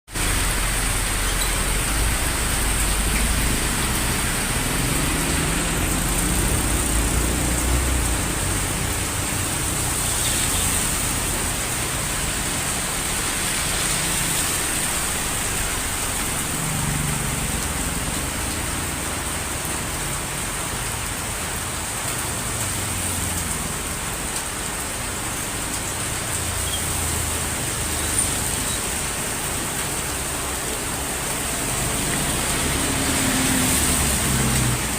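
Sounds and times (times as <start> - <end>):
heavy rain: 0.1 - 34.9
road traffic rumble: 0.1 - 34.9.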